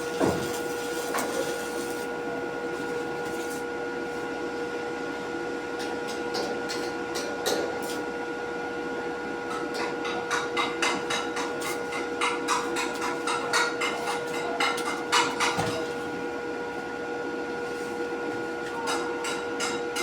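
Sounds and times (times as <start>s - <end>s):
machine hum with constant tone: 0.0s - 20.0s.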